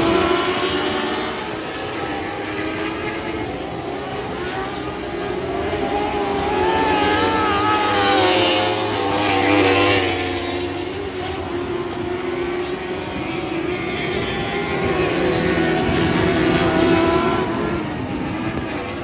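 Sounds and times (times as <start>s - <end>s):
sprint car engines racing: 0.0s - 19.0s.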